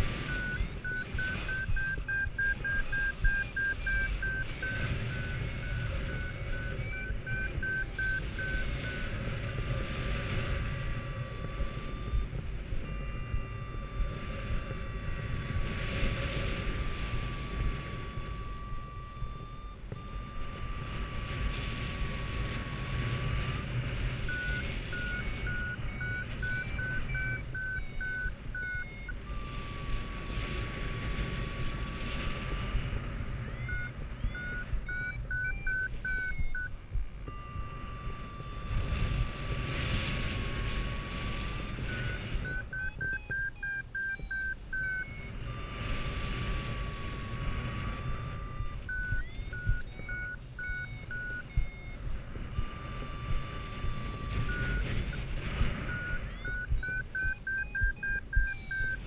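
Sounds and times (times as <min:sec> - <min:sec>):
variometer sink tone: 0:00.0 - 0:39.6, 0:40.3 - 0:59.0
airflow rumbling on microphone: 0:00.0 - 0:59.0
variometer climb beeps: 0:00.0 - 0:59.0.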